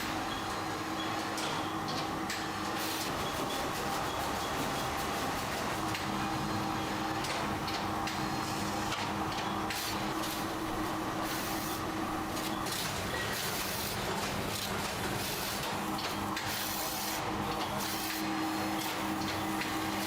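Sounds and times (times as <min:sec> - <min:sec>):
constant machine hum: 0:00.0 - 0:20.0.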